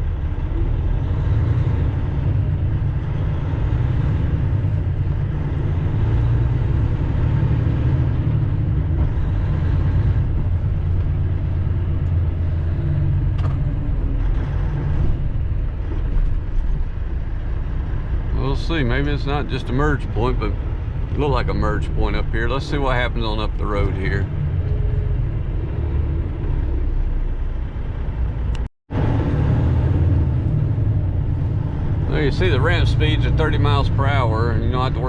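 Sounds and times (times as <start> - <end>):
truck diesel engine rumble: 0.0 - 35.0.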